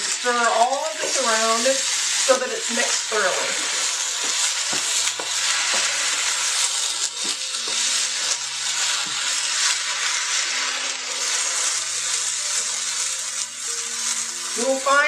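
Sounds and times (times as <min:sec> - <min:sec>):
food sizzling in a skillet: 0:00.0 - 0:15.0
spatula scraping a pan: 0:00.0 - 0:15.0.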